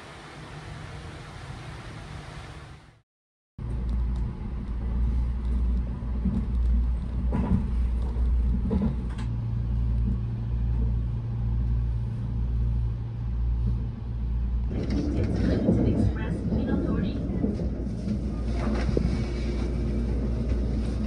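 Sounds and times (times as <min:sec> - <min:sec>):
train hum: 0:03.6 - 0:21.0
train rumble inside carriage: 0:03.6 - 0:21.0.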